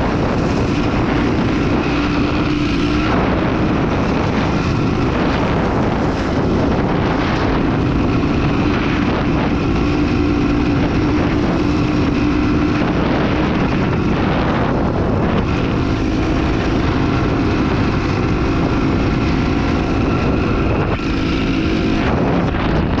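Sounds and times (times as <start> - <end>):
motorcycle engine under throttle: 0.0 - 23.0
wind noise on microphone: 0.0 - 23.0.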